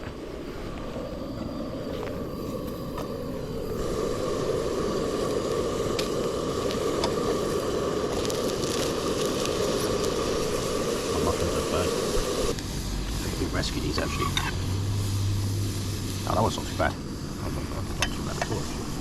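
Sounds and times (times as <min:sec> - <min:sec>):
mushrooms sizzling in a pan: 0:00.8 - 0:19.0.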